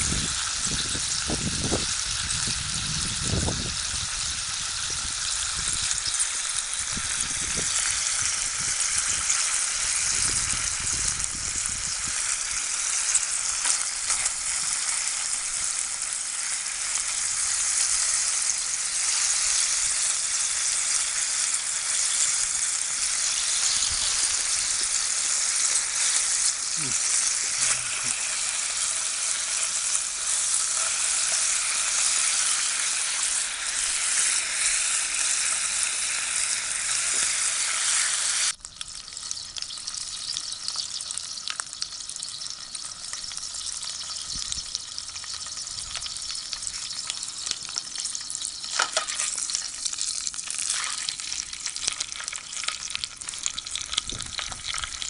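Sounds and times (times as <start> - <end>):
food sizzling in hot oil: 0.0 - 55.0
oil popping: 4.8 - 35.8, 38.5 - 55.0.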